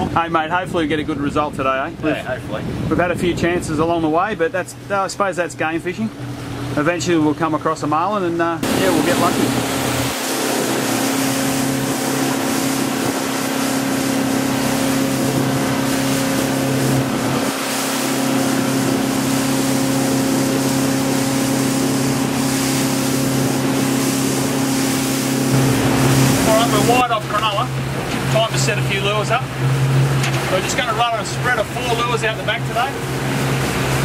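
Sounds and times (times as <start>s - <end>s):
motorboat engine droning: 0.0s - 34.0s
wake rushing: 0.0s - 34.0s
wind: 0.0s - 34.0s.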